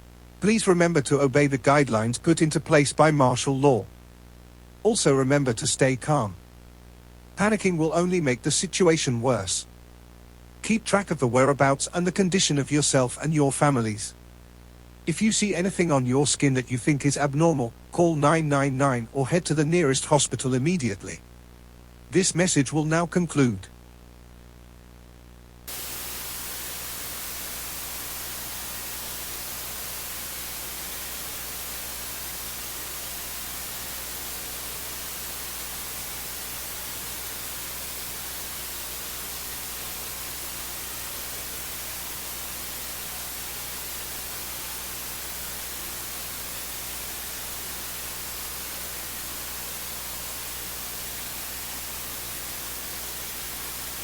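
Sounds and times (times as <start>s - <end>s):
low electrical hum: 0.0s - 54.0s
television static hiss: 0.0s - 54.0s.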